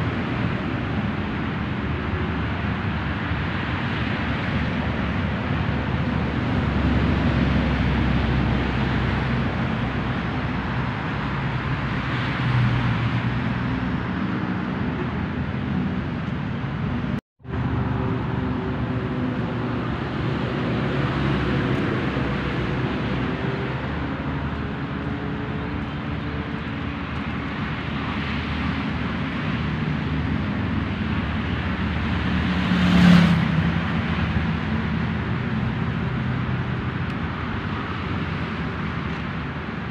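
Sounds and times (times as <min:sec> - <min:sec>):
loud vehicle passing: 0:00.0 - 0:39.9
road traffic noise: 0:00.0 - 0:39.9.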